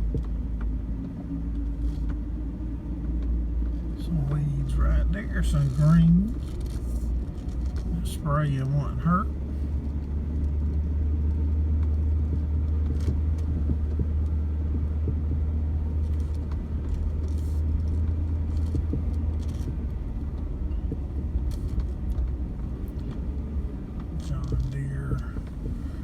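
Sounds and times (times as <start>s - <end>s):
vehicle engine drone: 0.0s - 26.0s
faint clicks and rattles: 3.0s - 26.0s.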